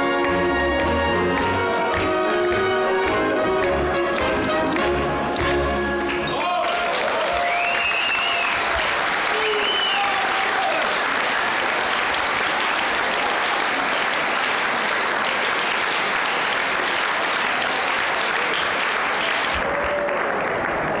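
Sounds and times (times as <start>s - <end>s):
audience applauding: 0.2s - 21.0s.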